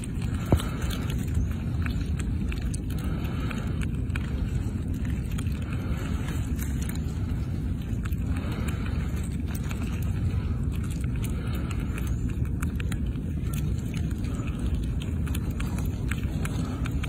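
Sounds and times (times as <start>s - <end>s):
squirrel gnawing nut: 0.0s - 17.0s
steady low rumble: 0.0s - 17.0s.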